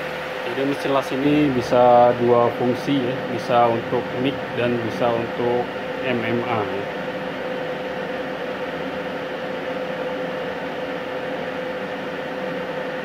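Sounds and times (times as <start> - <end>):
welding machine fan whir: 0.0 - 13.0.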